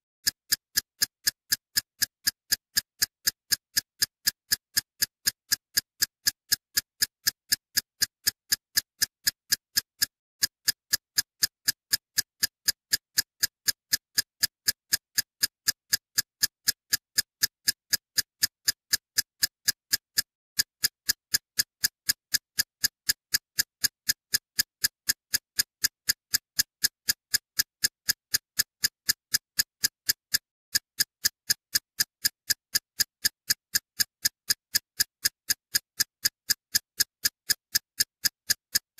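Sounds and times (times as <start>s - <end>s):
rhythmic ticking clicks: 0.2s - 38.9s.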